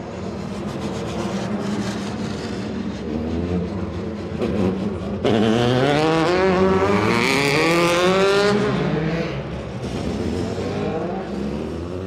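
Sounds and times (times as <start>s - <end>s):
racing engine revving: 0.8s - 12.0s.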